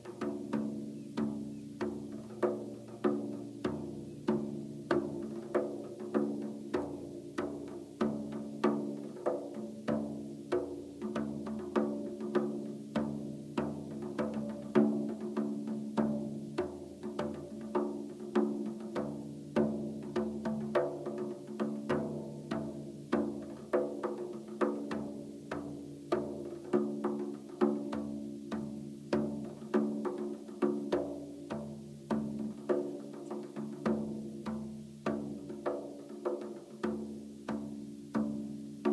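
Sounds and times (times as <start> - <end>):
frame drum played by hand: 0.0 - 38.9.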